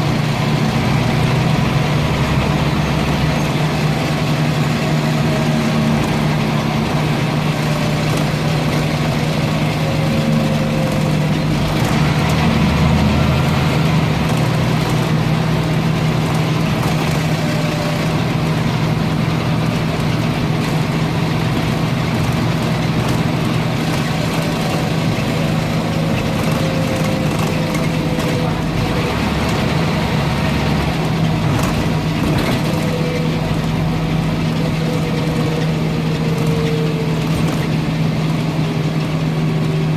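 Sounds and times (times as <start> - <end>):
bus engine humming: 0.0 - 39.9.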